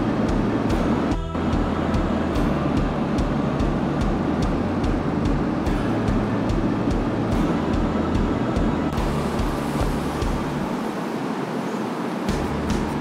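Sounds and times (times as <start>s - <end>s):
electric fans rushing air: 0.0s - 13.0s.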